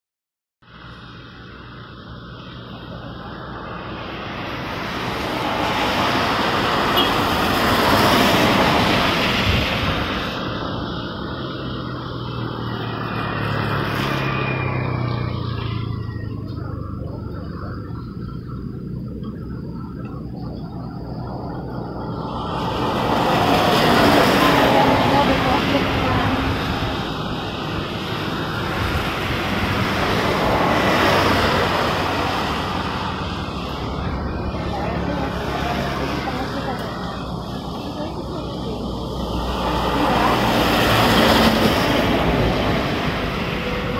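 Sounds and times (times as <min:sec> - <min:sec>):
truck engine hum: 0:00.6 - 0:43.9
tyres hissing on wet road: 0:00.7 - 0:15.7, 0:22.2 - 0:43.9
vehicle passing: 0:02.4 - 0:43.9.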